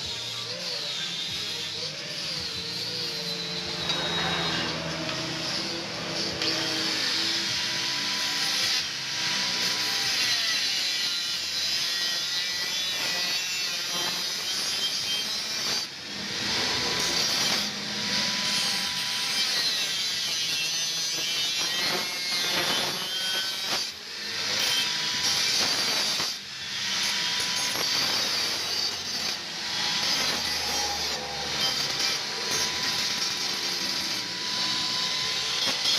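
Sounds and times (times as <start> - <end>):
power tool working on steel: 0.0 - 35.9.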